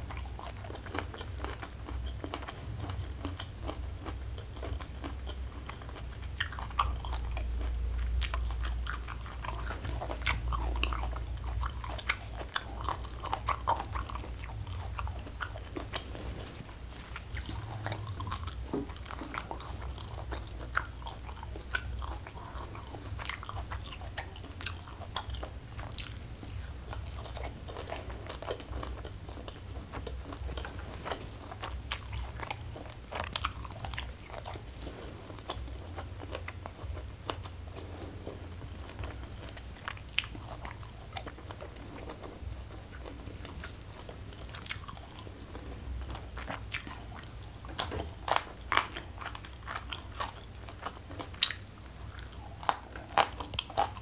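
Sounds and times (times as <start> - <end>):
chewing crunchy leafy greens: 0.0 - 54.0
steady low hum: 0.0 - 54.0.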